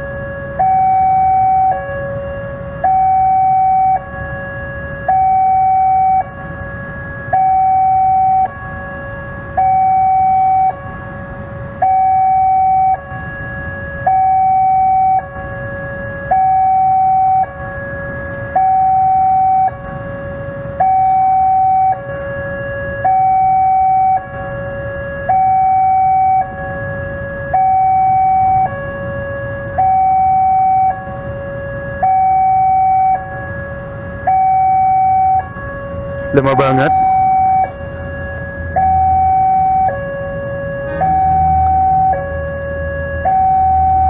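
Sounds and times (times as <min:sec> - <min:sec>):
low rumble of road traffic: 0:00.0 - 0:44.0
two-tone level crossing alarm: 0:00.0 - 0:44.0.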